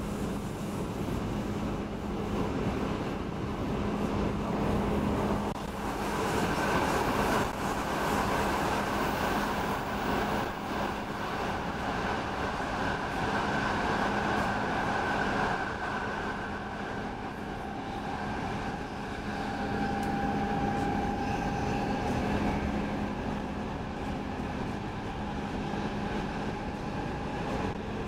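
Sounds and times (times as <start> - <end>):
train wheels rushing on rail: 0.0 - 28.0.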